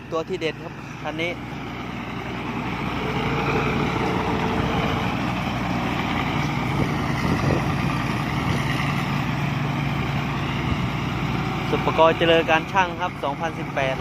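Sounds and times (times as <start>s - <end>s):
harvester engine droning: 0.0s - 14.0s.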